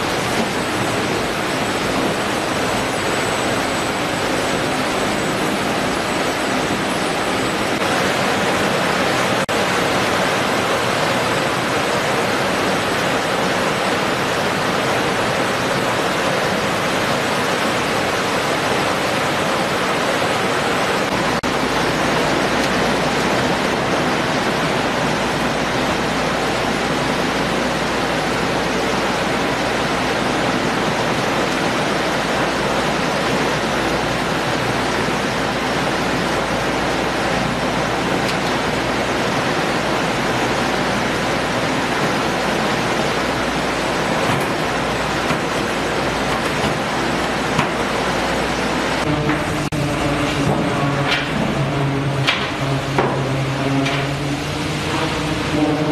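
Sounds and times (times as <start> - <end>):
processing machinery: 0.0 - 55.9
running water: 0.0 - 55.9.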